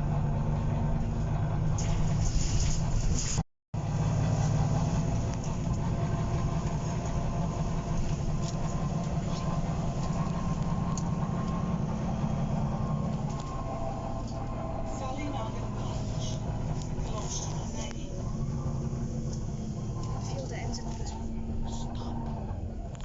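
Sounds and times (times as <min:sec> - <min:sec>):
bus diesel engine humming: 0:00.0 - 0:23.0.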